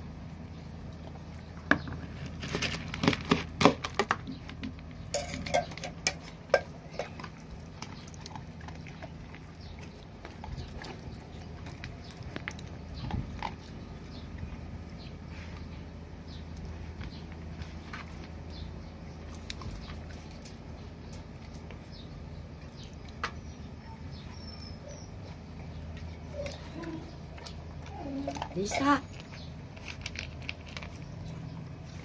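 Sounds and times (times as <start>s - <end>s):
dog crunching kibble: 0.0s - 23.5s, 25.1s - 32.0s.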